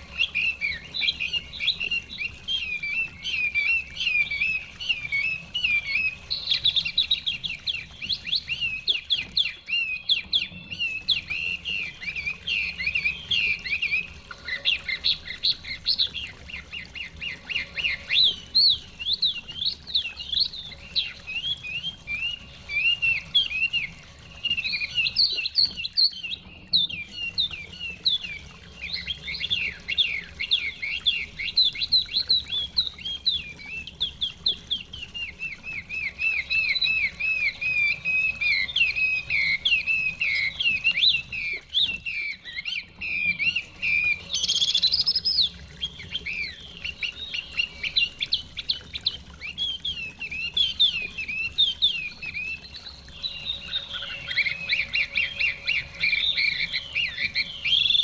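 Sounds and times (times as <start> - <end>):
bird singing varied notes: 0.0 - 58.0.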